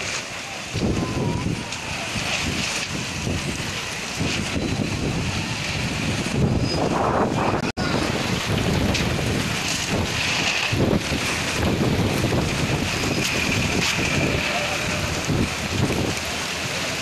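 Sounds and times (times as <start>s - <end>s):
heavy rain rushing: 0.0s - 17.0s
wind gusting on microphone: 0.0s - 17.0s.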